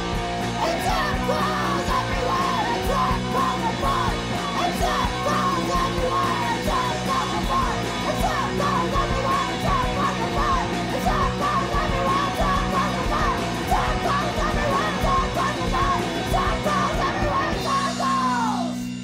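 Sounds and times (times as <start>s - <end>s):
punk rock song: 0.0s - 19.0s
person singing or shouting: 0.6s - 19.0s.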